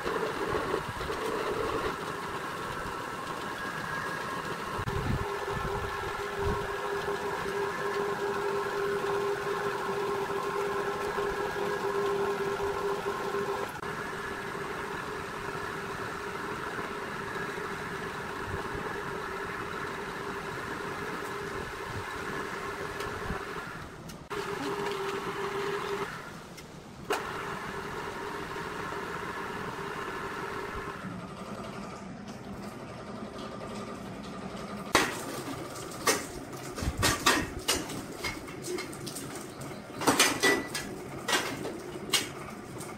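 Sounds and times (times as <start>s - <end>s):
tube-bending machine motor hum: 0.0s - 42.9s.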